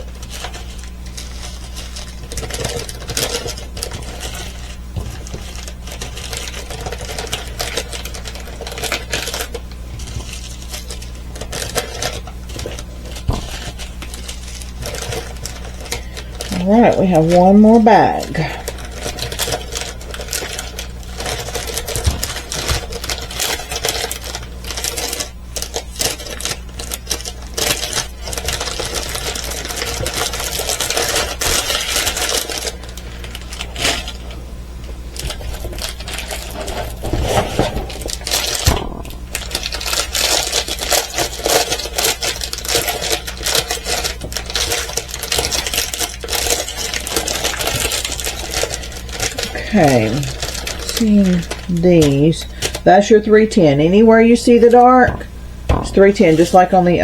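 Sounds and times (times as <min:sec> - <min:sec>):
plastic beads rattling in bags: 0:00.0 - 0:34.3, 0:35.1 - 0:52.9
plastic bags crinkling: 0:00.0 - 0:57.0
steady low hum: 0:00.0 - 0:57.0.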